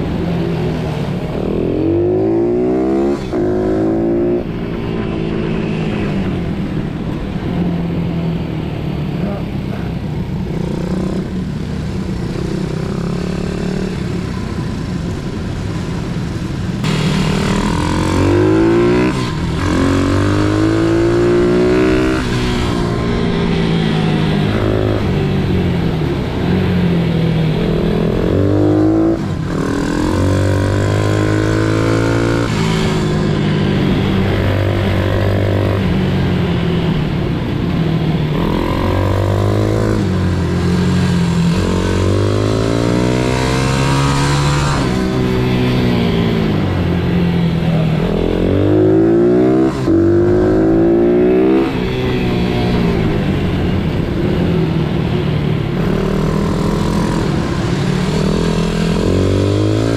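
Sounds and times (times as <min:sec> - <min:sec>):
engine droning: 0:00.0 - 0:59.9
pit bike engines revving: 0:08.7 - 0:59.9.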